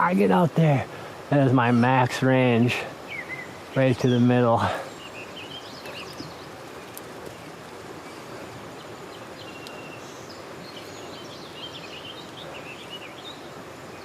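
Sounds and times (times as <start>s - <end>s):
creek rushing: 0.0s - 14.0s
small birds chirping: 0.0s - 14.0s.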